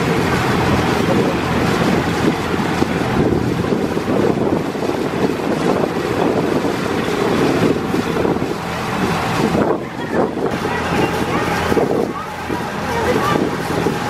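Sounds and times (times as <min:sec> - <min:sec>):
ferry engine running: 0:00.0 - 0:14.0
wind buffeting microphone: 0:00.0 - 0:14.0.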